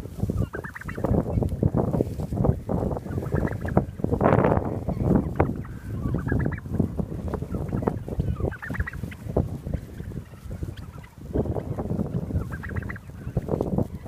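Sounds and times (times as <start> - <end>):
turkeys calling: 0.0 - 14.0.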